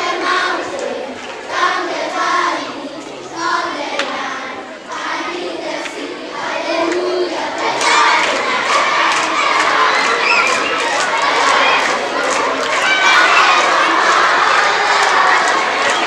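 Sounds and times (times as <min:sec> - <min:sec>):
children singing together: 0:00.0 - 0:16.0
crowd noise and shouting: 0:00.0 - 0:16.0.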